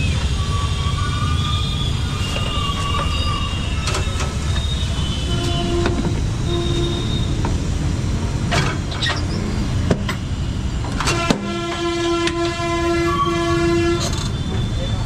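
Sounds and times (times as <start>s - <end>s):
long steady horn-like tone: 0.0s - 7.5s, 10.2s - 15.0s
busy background rumble: 0.0s - 15.0s.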